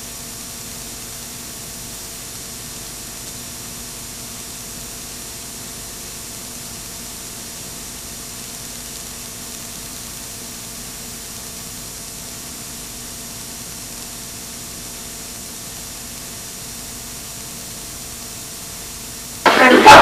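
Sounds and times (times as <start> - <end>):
videotape hiss: 0.0 - 12.6, 13.5 - 20.0.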